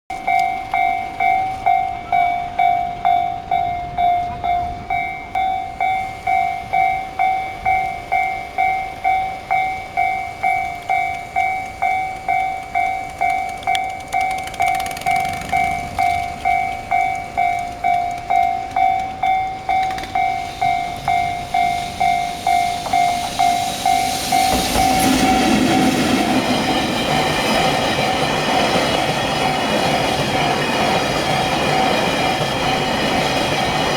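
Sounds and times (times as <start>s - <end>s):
level crossing alarm ringing: 0.1s - 33.9s
train wheels clattering: 0.1s - 33.9s.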